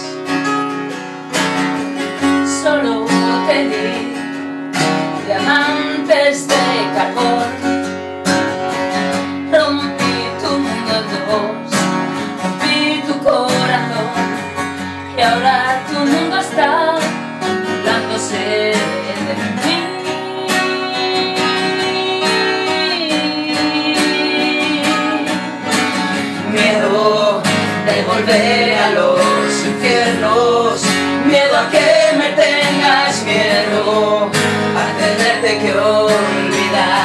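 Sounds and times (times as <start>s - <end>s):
acoustic guitars playing: 0.0s - 37.0s.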